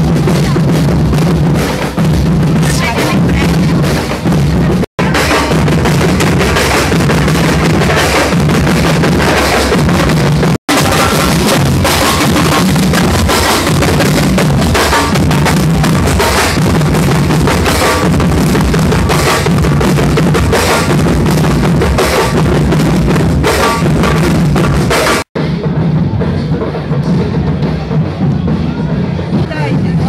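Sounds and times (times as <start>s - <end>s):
marching band drums: 0.0s - 30.0s.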